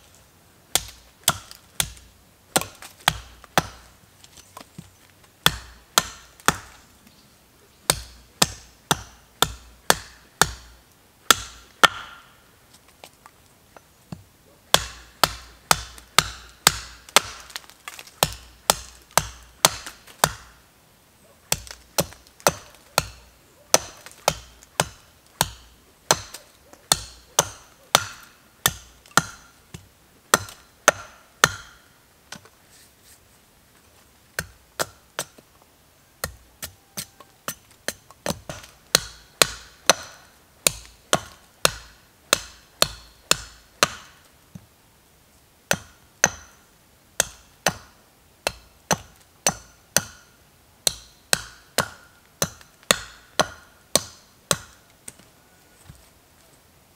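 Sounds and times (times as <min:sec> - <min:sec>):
hatchet chopping wood: 0:00.7 - 0:06.8, 0:07.9 - 0:12.3, 0:14.1 - 0:20.6, 0:21.5 - 0:32.4, 0:34.4 - 0:35.5, 0:36.2 - 0:44.7, 0:45.7 - 0:46.6, 0:47.2 - 0:54.8.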